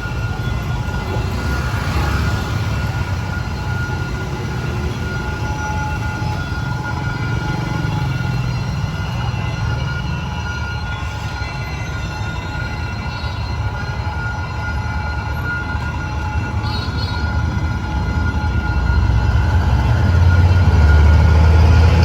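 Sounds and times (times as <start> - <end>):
high-pitched ringing tones: 0.0 - 22.0
train rumbling on rails: 0.0 - 22.0.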